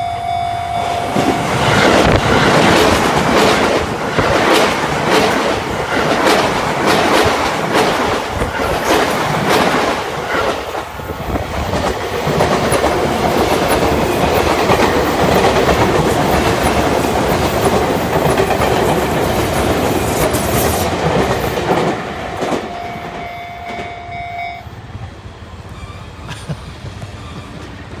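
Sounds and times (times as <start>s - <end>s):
train wheels clacking on rails: 0.0s - 28.0s.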